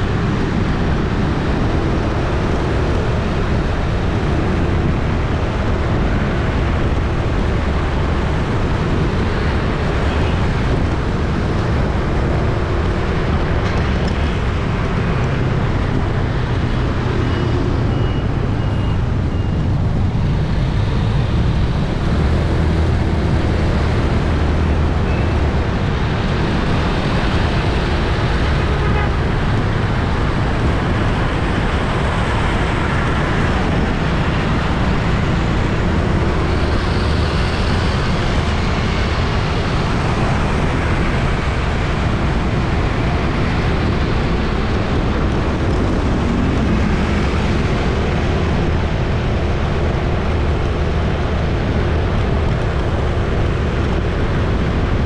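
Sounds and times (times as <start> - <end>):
busy street traffic: 0.0 - 55.0
low engine hum: 0.0 - 55.0.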